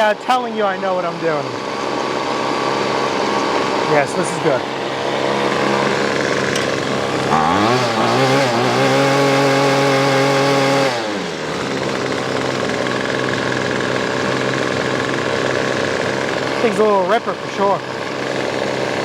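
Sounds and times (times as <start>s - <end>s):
string trimmer engine revving: 0.0s - 19.0s.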